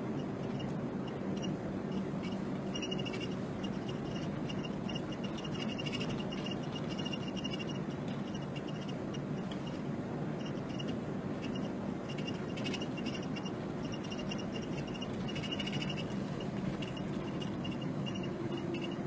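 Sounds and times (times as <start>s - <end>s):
vehicle engine and tyres running: 0.0s - 19.0s.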